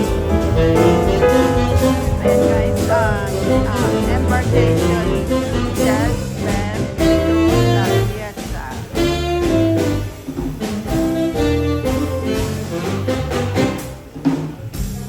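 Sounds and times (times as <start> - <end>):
steady bass line: 0.0 - 14.1
saxophone melody: 0.0 - 14.2.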